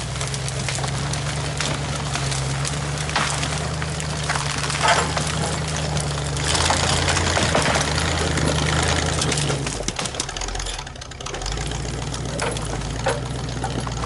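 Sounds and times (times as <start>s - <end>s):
crackling and clicks: 0.0s - 14.0s
engine running steadily: 0.0s - 14.0s.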